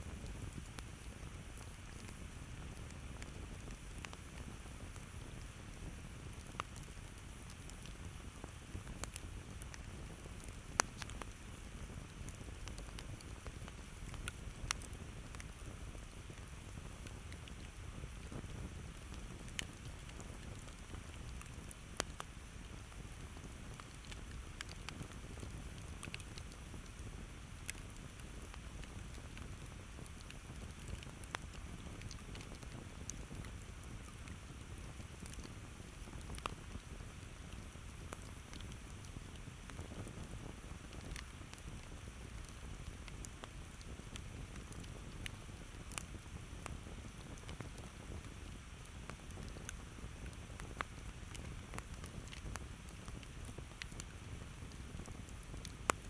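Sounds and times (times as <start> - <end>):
campfire low rumble: 0.0 - 56.0
wood crackling and popping: 0.0 - 56.0.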